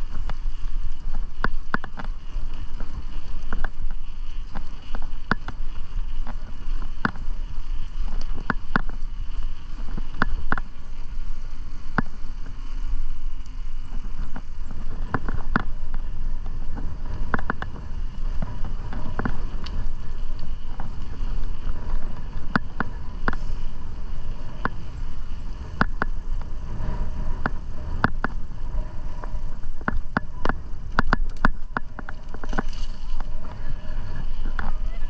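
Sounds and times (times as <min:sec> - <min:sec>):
bicycle clicks and rattles: 0:00.0 - 0:35.0
bicycle tyres rumbling: 0:00.0 - 0:35.0.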